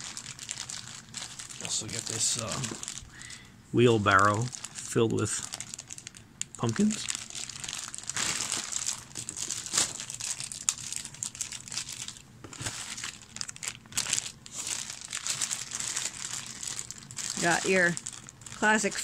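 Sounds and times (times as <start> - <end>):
plastic bags crinkling: 0.0 - 3.4, 4.0 - 19.0.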